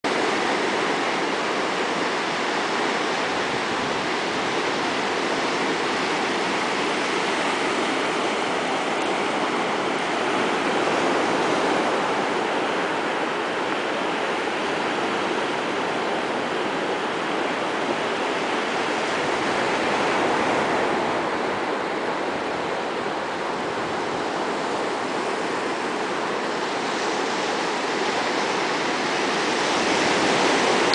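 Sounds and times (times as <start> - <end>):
surf breaking on sandy beach: 0.1 - 30.9.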